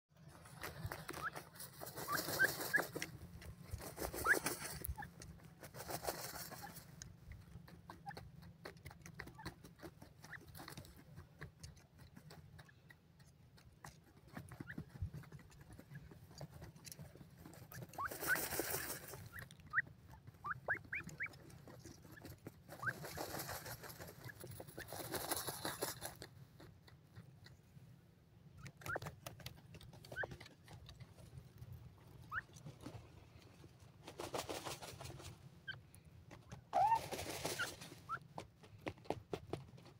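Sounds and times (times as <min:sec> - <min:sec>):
scratchy rustling in dry soil: 0:00.1 - 0:27.7, 0:28.6 - 0:39.9.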